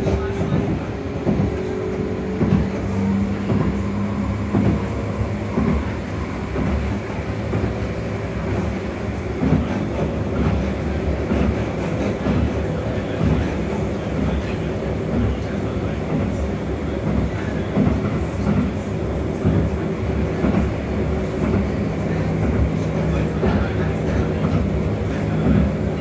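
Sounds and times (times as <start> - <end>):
wheels rumbling on rail: 0.0 - 26.0.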